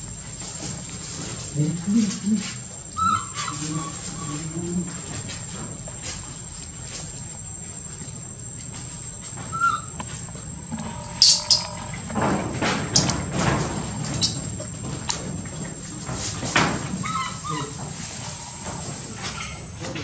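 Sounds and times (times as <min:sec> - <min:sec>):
steady high whine: 0:00.0 - 0:17.1
rustling and scuffling: 0:00.0 - 0:20.0.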